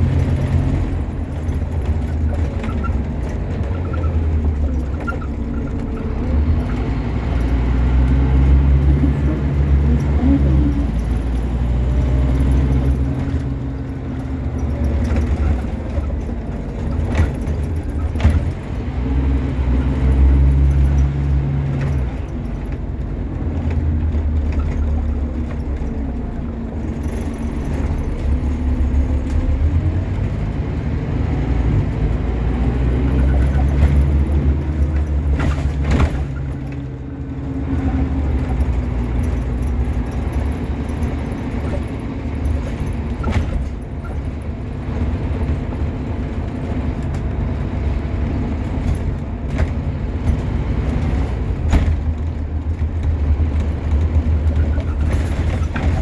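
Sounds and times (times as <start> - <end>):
bus body rattles: 0.0 - 56.0
bus diesel engine: 0.0 - 56.0.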